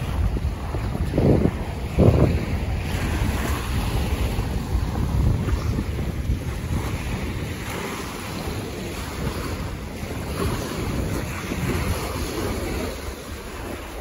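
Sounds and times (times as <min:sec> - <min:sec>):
small waves breaking on sand: 0:00.0 - 0:14.0
wind rumbling on microphone: 0:00.0 - 0:14.0.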